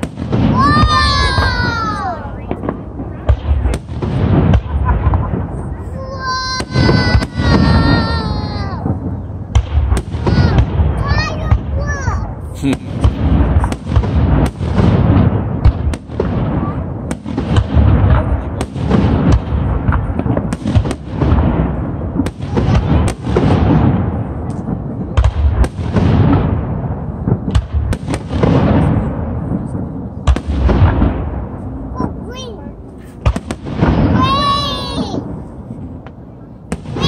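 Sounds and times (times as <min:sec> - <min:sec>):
fireworks bursting with echoing booms: 0:00.0 - 0:37.0.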